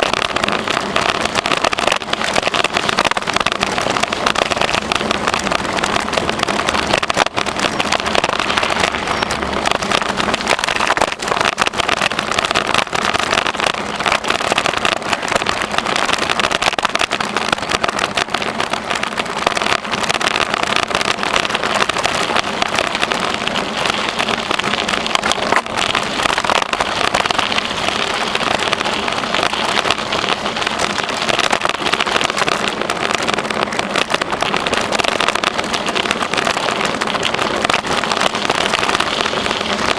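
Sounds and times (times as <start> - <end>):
bicycle tyres rolling on trail: 0.0 - 39.9.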